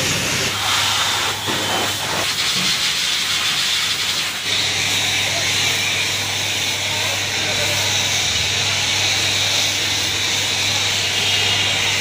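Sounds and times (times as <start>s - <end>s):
pressure washer jet spraying: 0.0s - 12.0s
washer motor hum: 0.0s - 12.0s.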